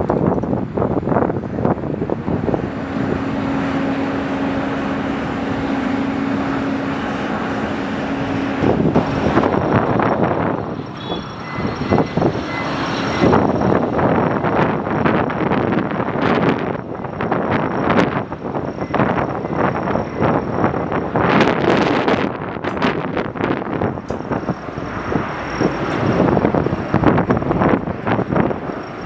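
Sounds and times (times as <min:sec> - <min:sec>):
aircraft engine rush: 0:00.0 - 0:29.0
engine hum: 0:00.0 - 0:29.0
wind buffeting microphone: 0:00.0 - 0:29.0.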